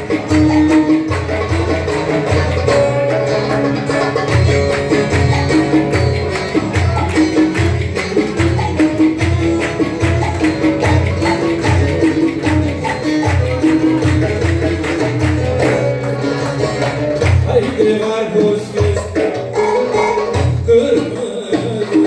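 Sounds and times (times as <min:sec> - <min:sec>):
keyboard melody: 0:00.0 - 0:22.0
plucked lute melody: 0:00.0 - 0:22.0.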